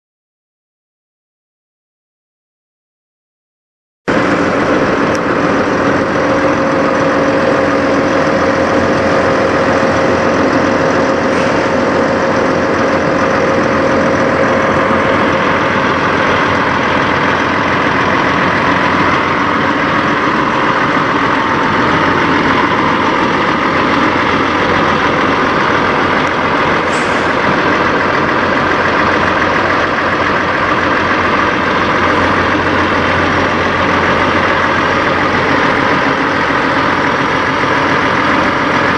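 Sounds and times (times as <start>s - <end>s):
diesel truck engine idling: 4.1s - 38.9s.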